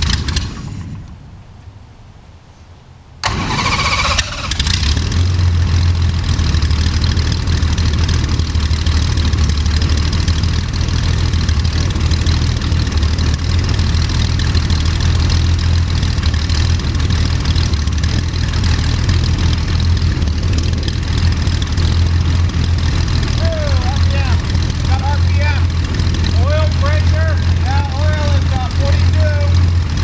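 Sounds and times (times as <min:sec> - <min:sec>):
aircraft engine idling: 0:00.0 - 0:01.4, 0:03.2 - 0:30.0.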